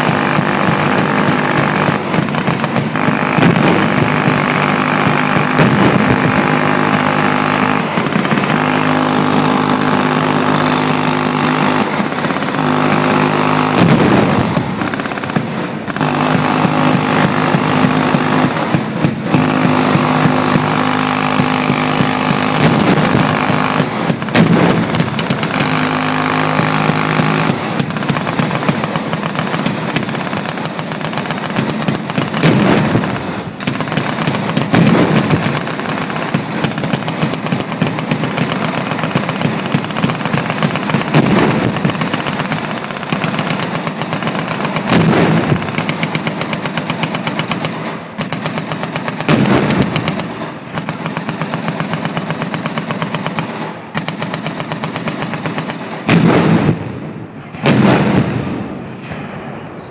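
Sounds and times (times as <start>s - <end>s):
heavy booms: 0.0s - 9.9s, 11.4s - 40.2s, 40.8s - 42.8s, 43.6s - 45.9s, 49.2s - 51.0s, 55.9s - 59.9s
machine guns firing bursts: 0.0s - 57.0s.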